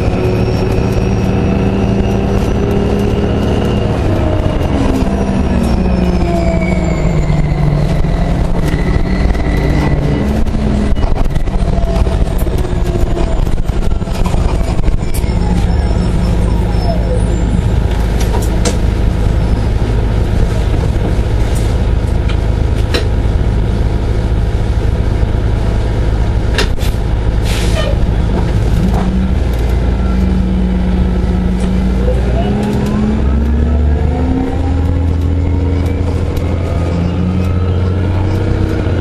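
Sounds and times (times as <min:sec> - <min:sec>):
bus engine humming: 0:00.0 - 0:39.0.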